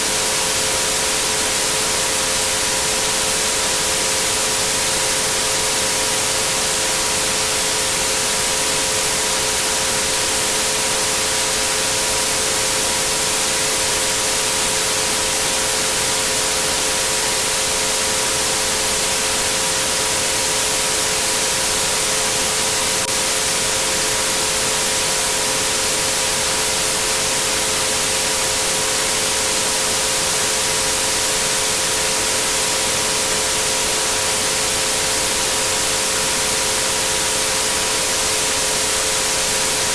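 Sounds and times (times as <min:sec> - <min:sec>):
white-noise hiss: 0:00.0 - 0:39.9.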